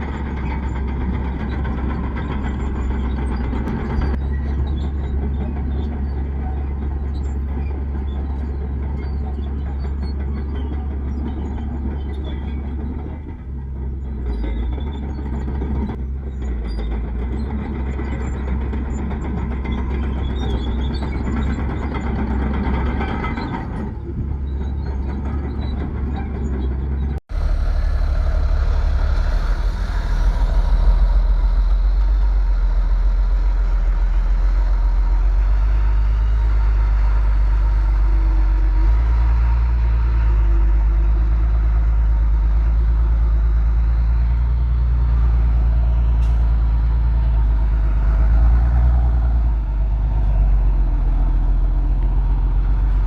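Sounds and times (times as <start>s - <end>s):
heavy diesel machinery rumbling: 0.0s - 53.0s.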